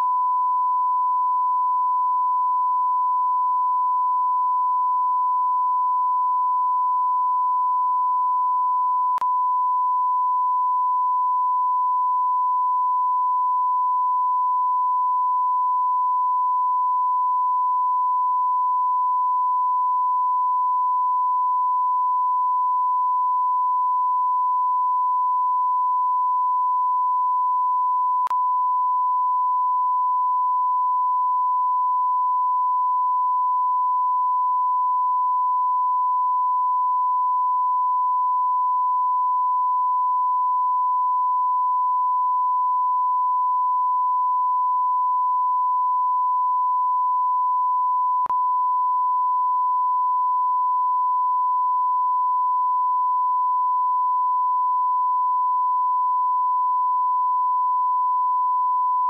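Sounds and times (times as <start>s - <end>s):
sine-wave test tone: 0.0s - 59.0s.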